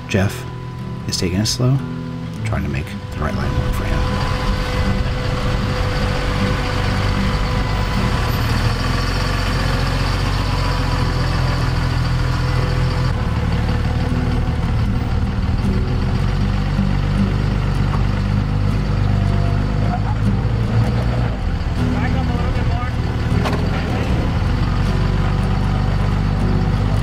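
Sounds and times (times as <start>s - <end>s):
truck engine running at low revs: 0.0s - 27.0s.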